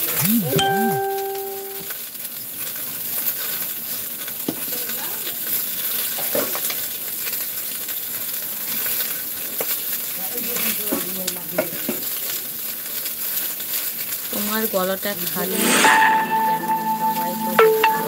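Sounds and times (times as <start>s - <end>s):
food sizzling in a pan: 1.0s - 18.0s.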